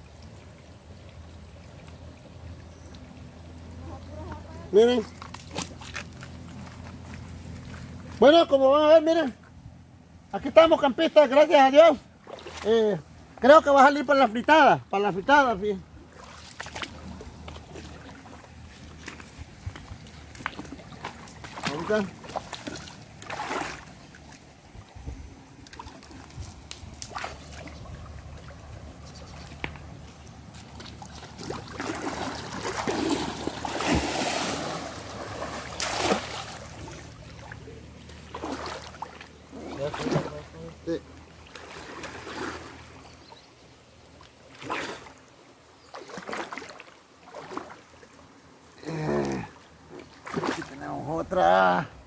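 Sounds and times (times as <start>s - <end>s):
stream water sloshing and splashing: 0.0s - 52.0s.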